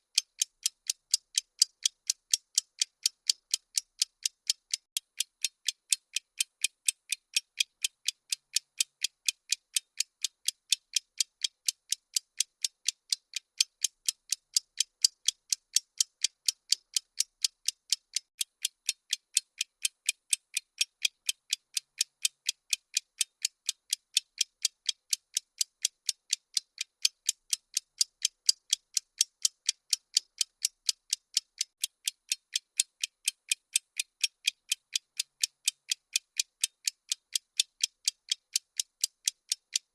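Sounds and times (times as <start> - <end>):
bomb timer ticking: 0.0 - 39.9.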